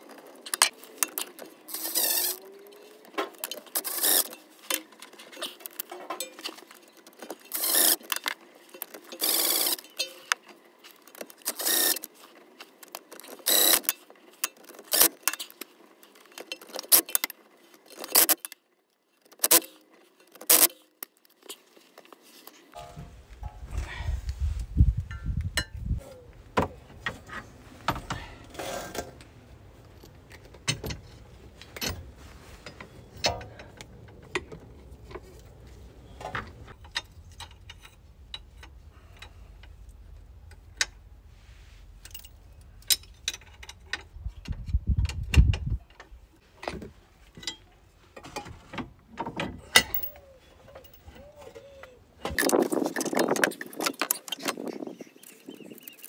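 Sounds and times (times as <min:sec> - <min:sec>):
tools and metal parts clinking: 0:00.0 - 0:23.6, 0:27.0 - 0:40.9, 0:41.9 - 0:56.0.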